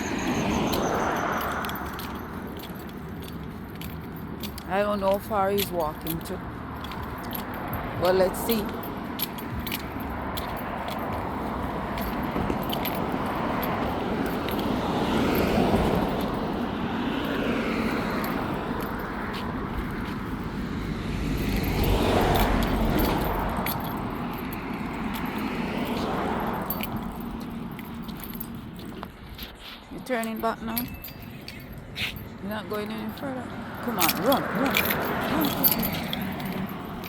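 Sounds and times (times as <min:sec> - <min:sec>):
cars passing on road: 0:00.0 - 0:37.0.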